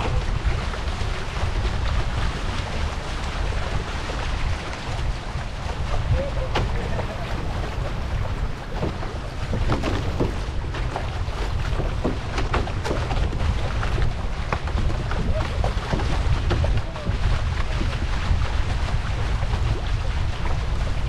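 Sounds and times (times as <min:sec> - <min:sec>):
paddle splashes: 0:00.0 - 0:21.0
water splashing against hull: 0:00.0 - 0:21.0
wind buffeting microphone: 0:00.0 - 0:21.0.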